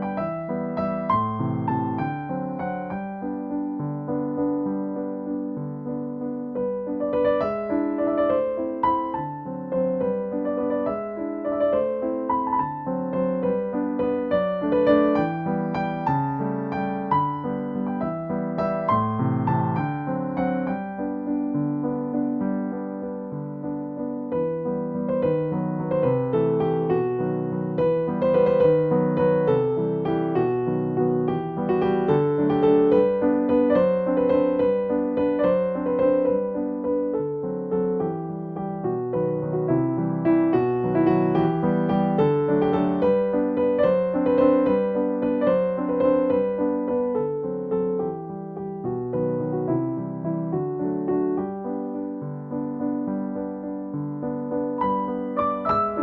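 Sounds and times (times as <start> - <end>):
piano melody over chords: 0.0 - 56.0.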